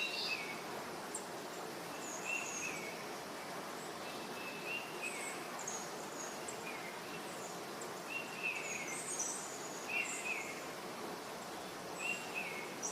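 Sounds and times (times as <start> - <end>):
background hiss: 0.0 - 12.9.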